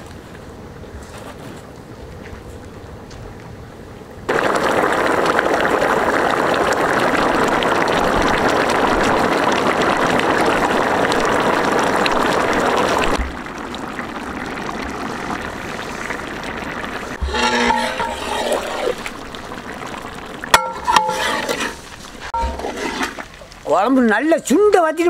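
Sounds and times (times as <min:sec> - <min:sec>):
curry bubbling in a pot: 0:04.3 - 0:24.5.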